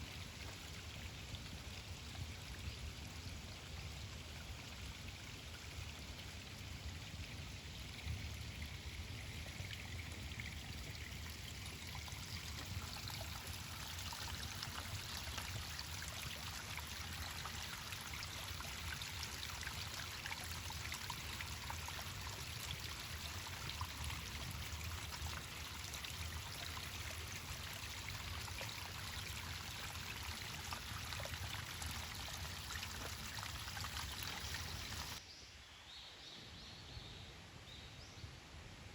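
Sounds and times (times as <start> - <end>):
stream trickling over stones: 0.0 - 35.2.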